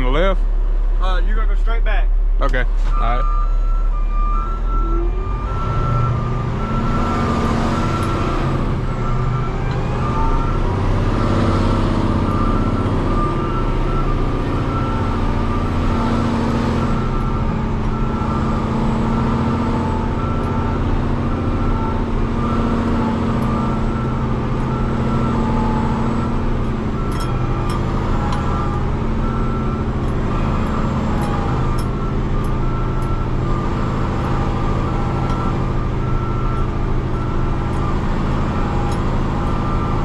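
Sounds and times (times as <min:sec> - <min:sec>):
diesel truck engine running: 0:00.0 - 0:40.0
backup alarm beeping: 0:02.9 - 0:40.0.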